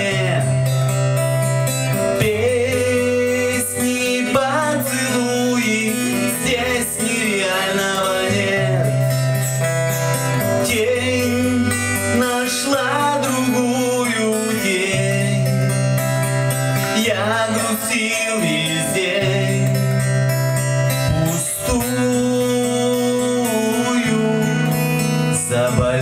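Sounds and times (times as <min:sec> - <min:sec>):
man singing: 0:00.0 - 0:01.1, 0:01.8 - 0:09.6, 0:10.2 - 0:16.0, 0:16.8 - 0:20.3, 0:20.9 - 0:26.0
acoustic guitar strumming: 0:00.0 - 0:26.0.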